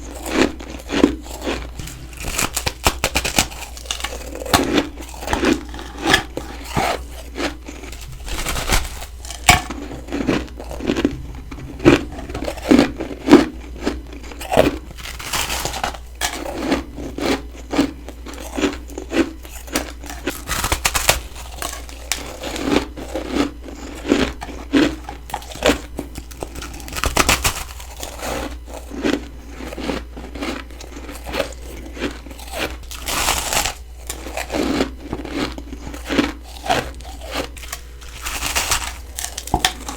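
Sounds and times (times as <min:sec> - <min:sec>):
crunching frost: 0:00.0 - 0:39.9
soft chewing: 0:00.0 - 0:39.9.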